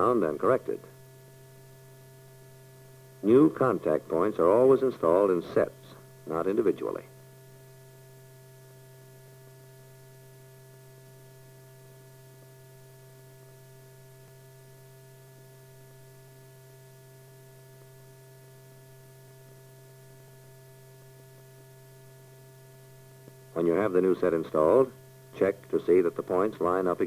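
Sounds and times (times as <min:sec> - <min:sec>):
low electrical hum with hiss: 0:00.0 - 0:27.0.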